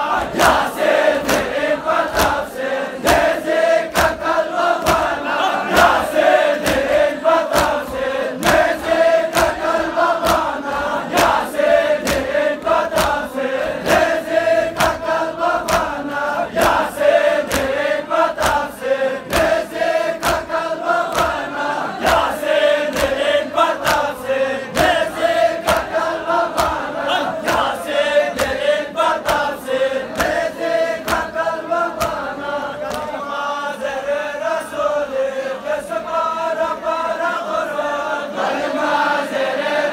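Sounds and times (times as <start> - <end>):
men chanting in unison: 0.0 - 39.9
hands slapping chests: 0.1 - 33.2.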